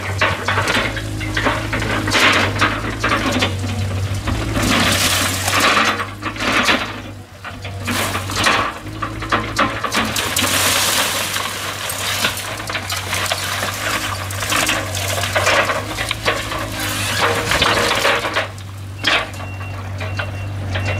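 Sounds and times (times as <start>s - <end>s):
crunching and cracking demolition: 0.0s - 20.9s
excavator engine humming: 0.0s - 20.9s.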